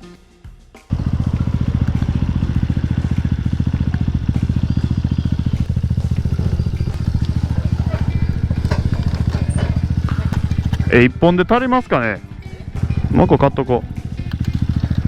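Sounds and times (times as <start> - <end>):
motorcycle engine running: 0.9 - 15.0.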